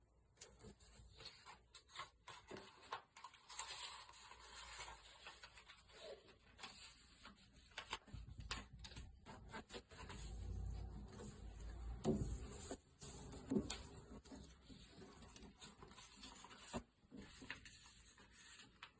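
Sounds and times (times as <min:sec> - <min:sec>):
paper folding and rustling: 0:00.4 - 0:18.9.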